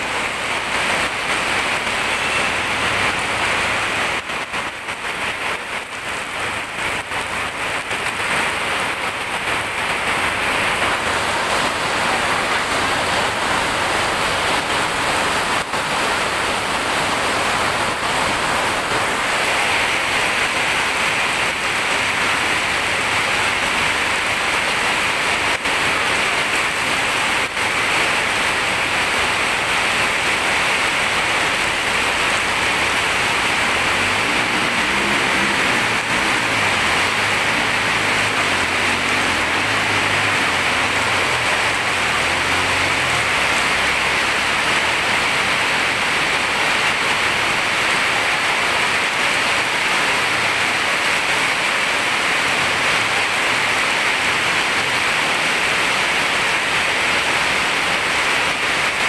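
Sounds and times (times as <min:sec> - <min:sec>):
heavy rain pouring on road: 0:00.0 - 0:59.0.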